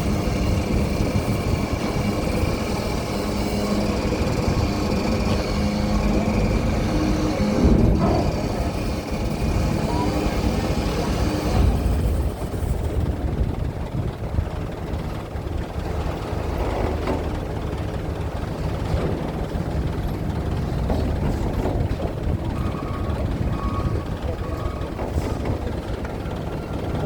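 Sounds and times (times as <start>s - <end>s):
heavy engines rumbling: 0.0s - 27.0s.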